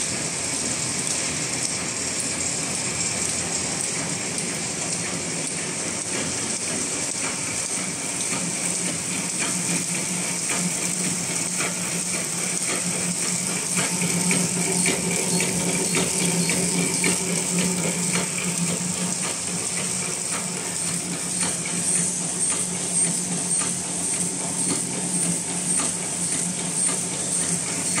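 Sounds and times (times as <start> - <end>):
machine clicking and clacking: 0.0 - 28.0
packing machine humming and hissing: 0.0 - 28.0.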